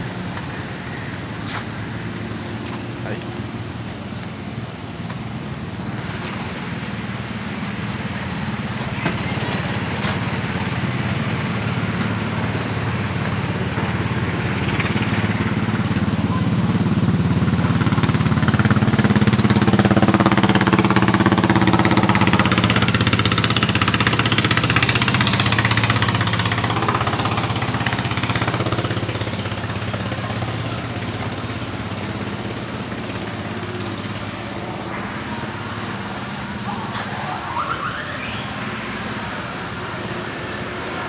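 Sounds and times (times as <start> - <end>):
engine running pulsing: 0.0 - 41.0.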